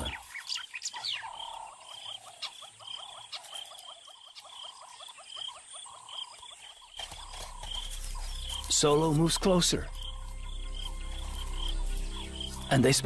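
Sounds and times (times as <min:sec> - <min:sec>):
frogs chirping: 0:00.0 - 0:13.0
pulsing high frog call: 0:00.0 - 0:13.0.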